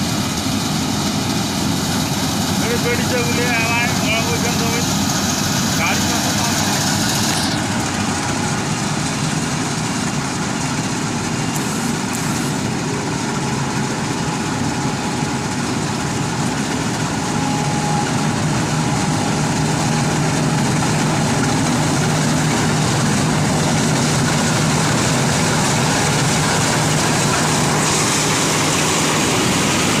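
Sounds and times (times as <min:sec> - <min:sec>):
combine harvester engine hum: 0:00.0 - 0:30.0.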